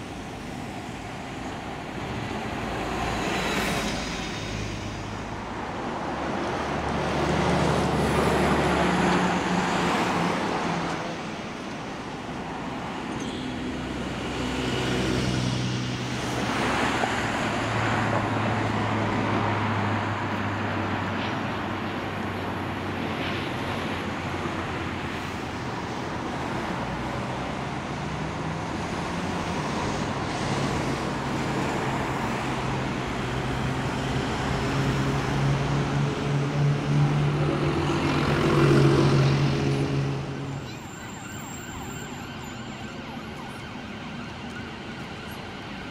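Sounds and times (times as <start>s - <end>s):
road traffic passing: 0.0s - 45.9s.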